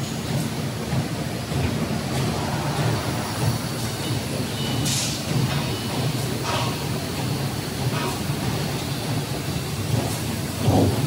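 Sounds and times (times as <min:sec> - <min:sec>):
industrial machinery drone: 0:00.0 - 0:11.0.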